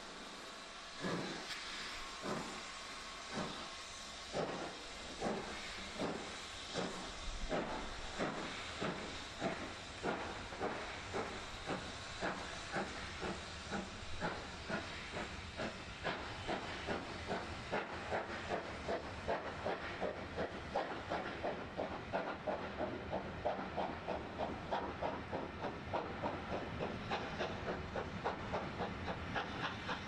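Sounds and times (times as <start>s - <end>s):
steam hissing: 0.0s - 30.0s
steam locomotive exhaust beats: 0.0s - 30.0s.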